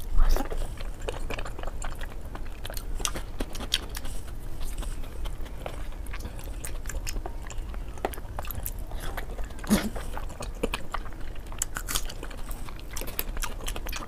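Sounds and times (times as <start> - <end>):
low steady hum: 0.0 - 14.0
wet chewing and mouth smacks: 0.0 - 14.0.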